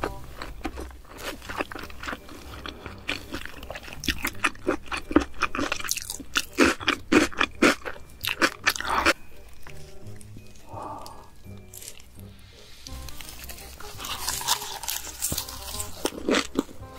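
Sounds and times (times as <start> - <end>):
sushi being chewed: 0.0 - 16.9.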